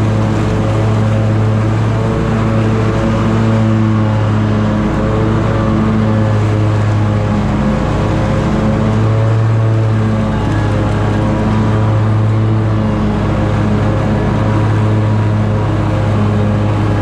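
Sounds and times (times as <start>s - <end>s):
lawn mower engine running: 0.0s - 17.0s
mower blades cutting grass: 0.0s - 17.0s.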